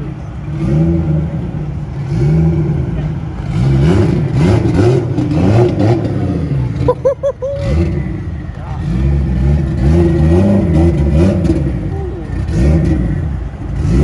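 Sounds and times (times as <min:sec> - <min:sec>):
car engine revving: 0:00.4 - 0:07.0, 0:07.6 - 0:14.0.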